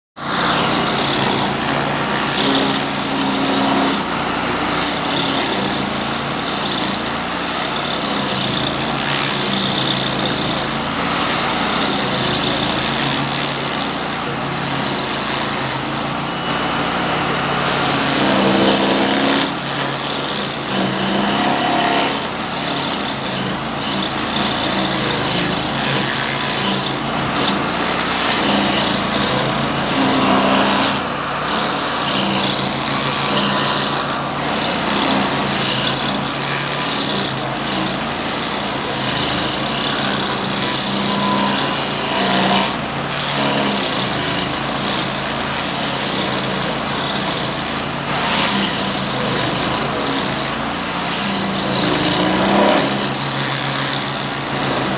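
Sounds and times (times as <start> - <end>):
cutter wheel chipping hiss: 0.2 - 54.9
stump grinder engine running: 0.2 - 54.9.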